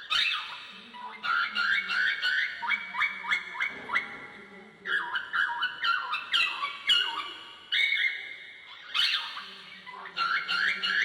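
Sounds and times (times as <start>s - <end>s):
cockatiel chirping: 0.0s - 4.1s, 4.9s - 11.0s.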